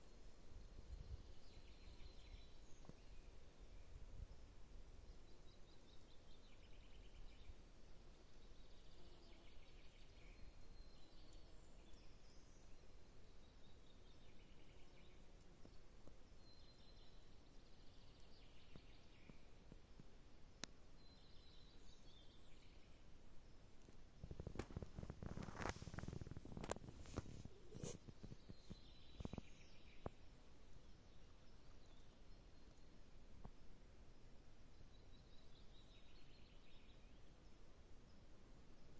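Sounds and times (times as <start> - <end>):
songbirds singing: 0.0 - 33.7, 34.4 - 38.9.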